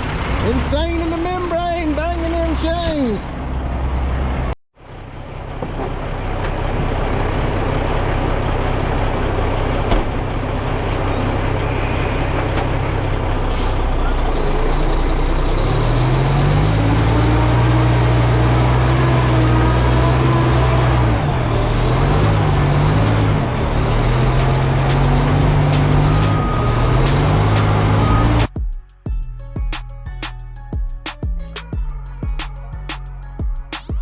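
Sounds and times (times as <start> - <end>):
heavy diesel engine running: 0.0 - 28.5.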